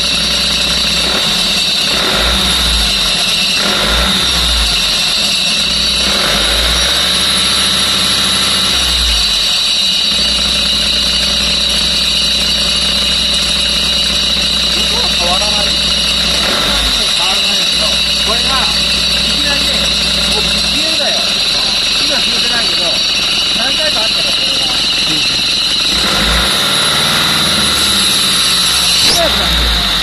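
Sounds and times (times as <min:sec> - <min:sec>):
bus engine running: 0:00.0 - 0:30.0
steady high whine: 0:00.0 - 0:30.0.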